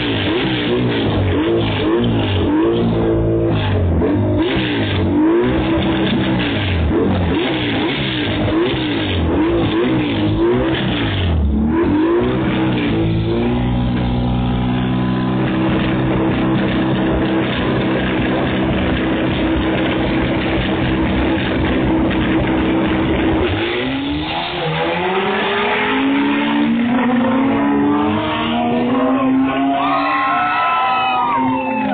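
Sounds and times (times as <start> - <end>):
race car engines revving: 0.0 - 31.9.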